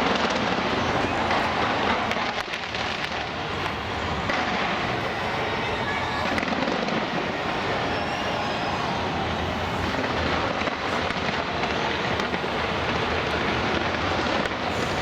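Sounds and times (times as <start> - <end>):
fireworks crackling hiss: 0.0 - 15.0.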